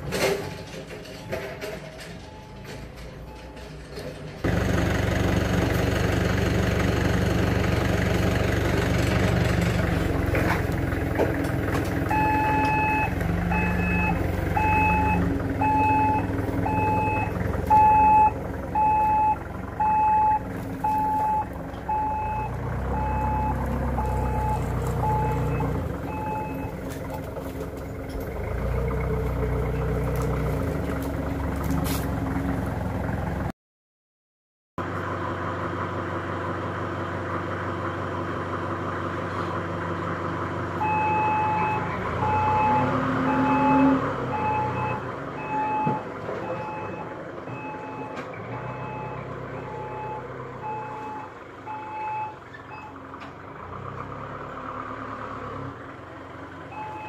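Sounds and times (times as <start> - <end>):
forklift engine running: 0.0 - 33.5, 34.8 - 57.0.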